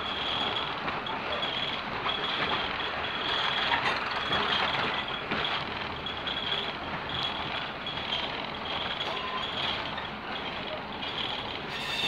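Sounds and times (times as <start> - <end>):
railcar engine and wheels rumbling: 0.0 - 12.0.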